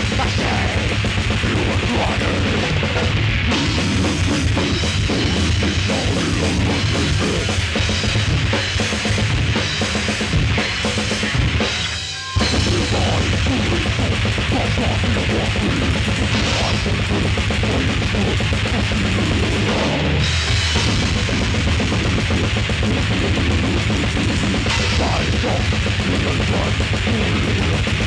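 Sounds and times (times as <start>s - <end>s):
death metal band playing live: 0.0s - 28.0s.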